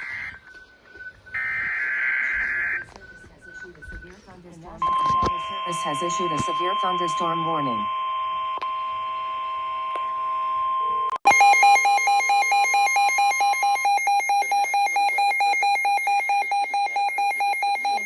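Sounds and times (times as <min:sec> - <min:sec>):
rapid electronic alarm beeping: 0:00.0 - 0:18.0.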